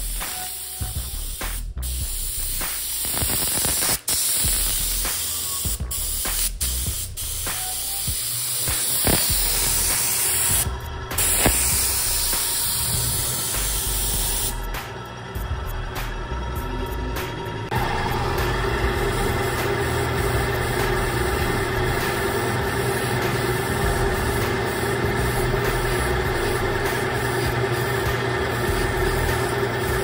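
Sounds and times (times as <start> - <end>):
paint spray gun hissing: 0.0 - 14.7, 17.7 - 30.0.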